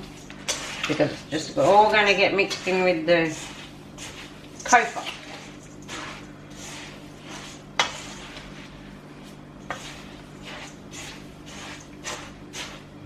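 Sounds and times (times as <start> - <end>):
dry mix rustling in bowl: 0.0 - 13.0.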